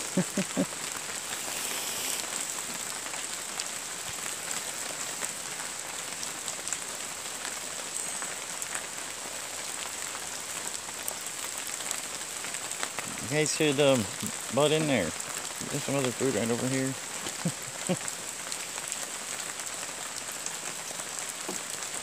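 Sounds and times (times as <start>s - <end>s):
steady rain on leaves: 0.0s - 22.0s.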